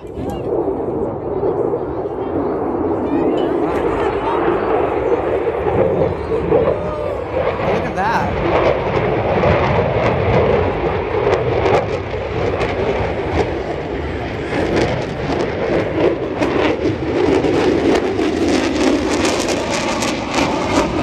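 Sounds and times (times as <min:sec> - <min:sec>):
jet engine roar with crackle: 0:00.0 - 0:21.0.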